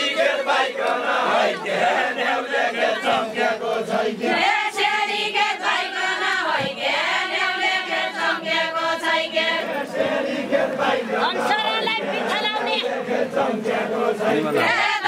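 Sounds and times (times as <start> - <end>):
group singing folk song: 0.0 - 15.0.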